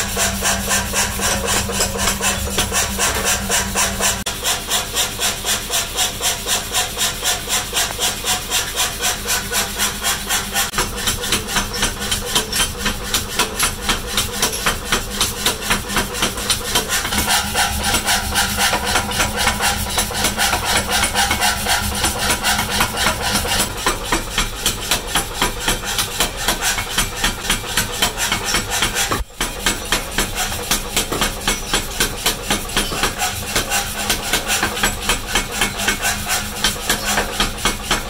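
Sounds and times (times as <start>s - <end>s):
power hammer striking steel: 0.0s - 38.0s.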